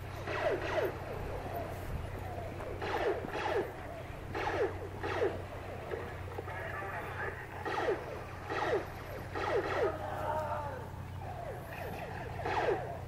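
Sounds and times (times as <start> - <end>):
laser tag gun zaps: 0.1 - 10.1, 11.2 - 13.0.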